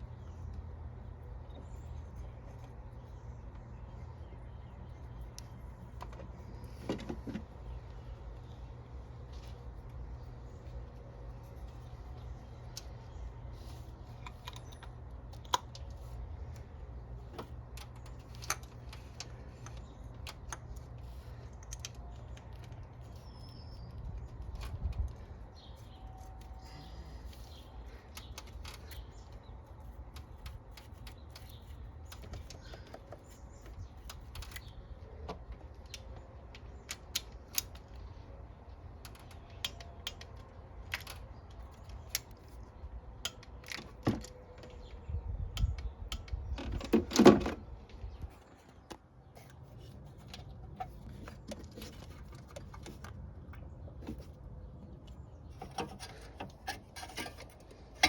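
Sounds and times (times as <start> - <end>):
hand tools and metal parts clicking: 9.2 - 45.0, 45.6 - 58.0.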